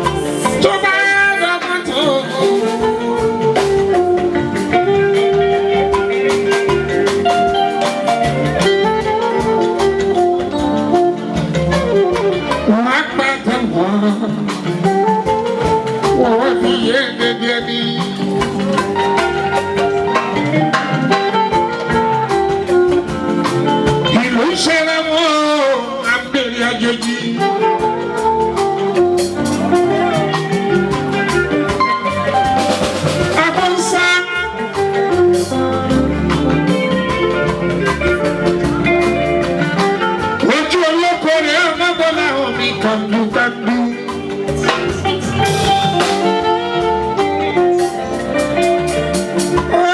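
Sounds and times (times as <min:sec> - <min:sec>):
live band with dense percussion: 0:00.0 - 0:49.9.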